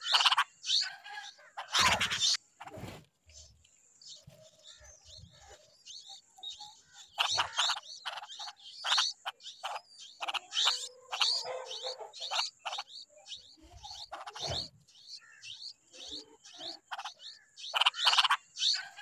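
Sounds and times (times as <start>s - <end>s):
nestlings rasping begging calls: 0.0s - 19.0s.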